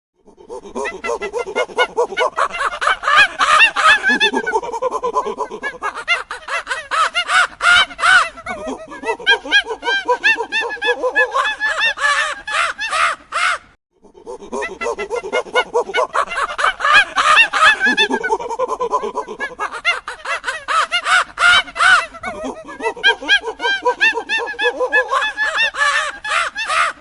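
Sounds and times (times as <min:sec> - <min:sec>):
monkeys calling: 0:00.7 - 0:13.6, 0:14.2 - 0:27.0.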